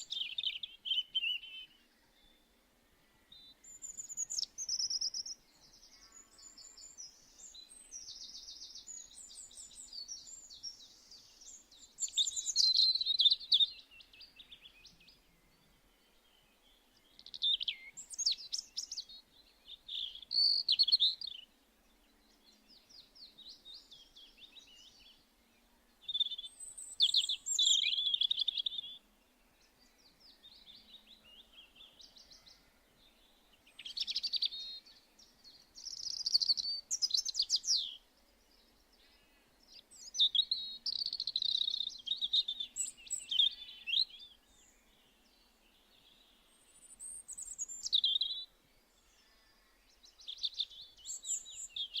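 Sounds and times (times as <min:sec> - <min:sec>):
songbird singing: 0:00.0 - 0:52.0.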